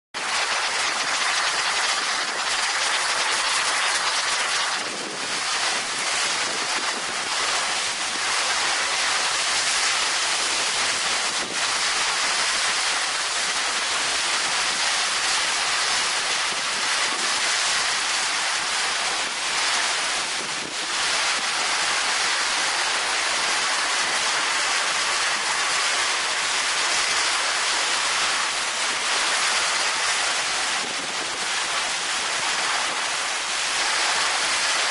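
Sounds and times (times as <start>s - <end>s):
heavy rain: 0.2s - 34.9s
strong wind: 0.2s - 34.9s.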